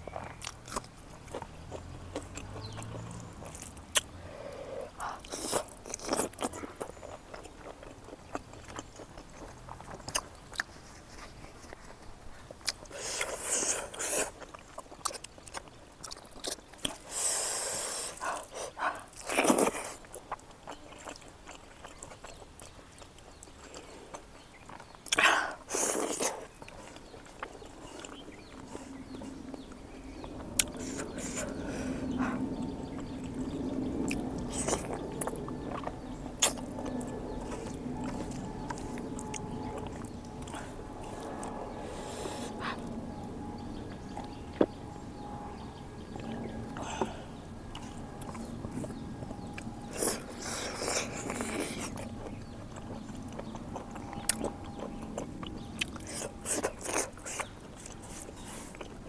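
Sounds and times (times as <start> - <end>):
person chewing: 0.0 - 44.7, 46.1 - 59.0
steady low hum: 0.0 - 59.0.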